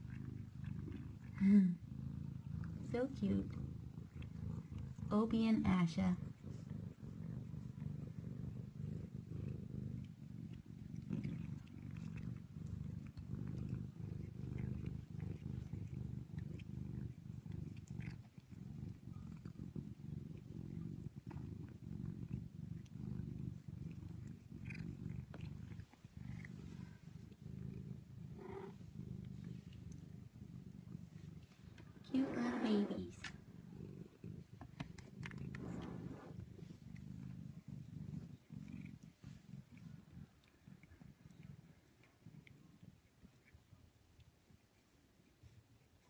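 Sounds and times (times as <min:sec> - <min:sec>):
cat purring: 0:00.0 - 0:46.0.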